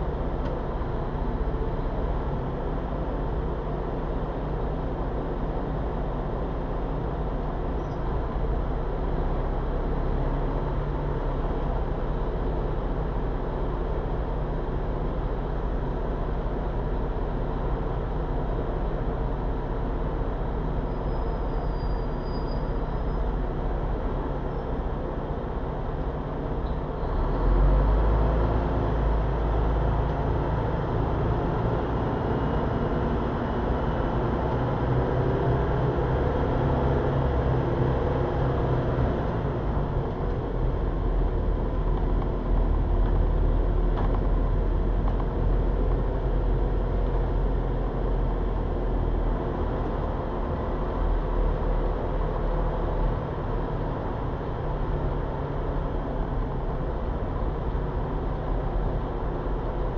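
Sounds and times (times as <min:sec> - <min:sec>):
bus engine and road noise: 0:00.0 - 0:59.9.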